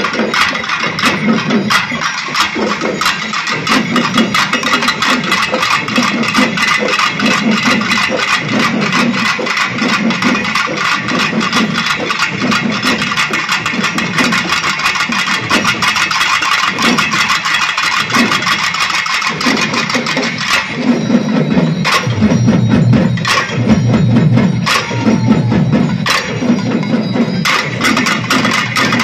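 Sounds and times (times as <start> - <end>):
drum ensemble playing fast: 0.0 - 29.0.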